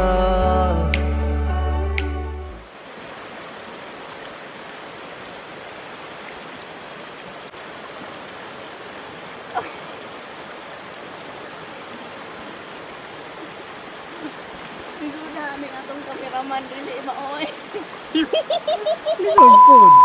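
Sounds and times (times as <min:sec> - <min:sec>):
river rushing over rocks: 0:02.7 - 0:20.0.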